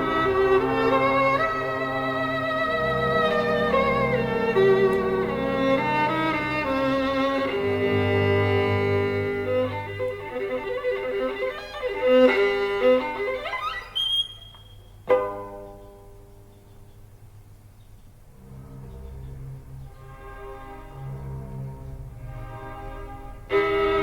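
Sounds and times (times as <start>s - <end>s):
violin with bowed strings: 0.0s - 15.3s, 18.3s - 24.0s.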